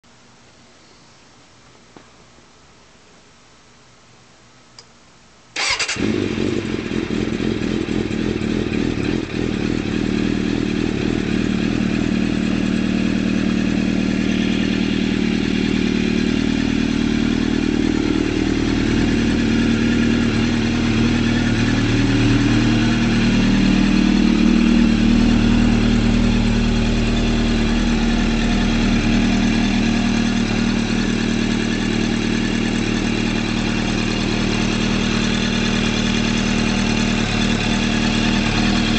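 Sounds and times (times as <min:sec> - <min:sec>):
motorcycle engine starting and idling: 0:05.6 - 0:38.9.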